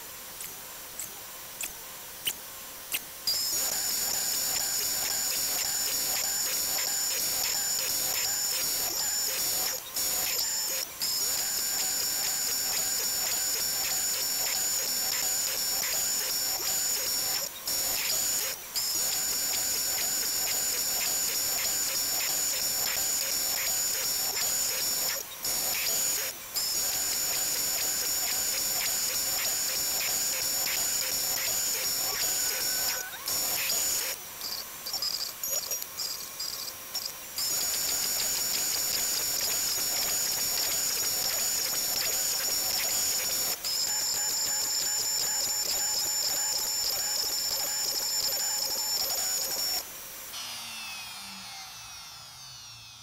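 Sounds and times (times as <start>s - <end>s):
bit cutting wood hiss: 0.4s - 53.0s
router spindle high whine: 3.3s - 53.0s.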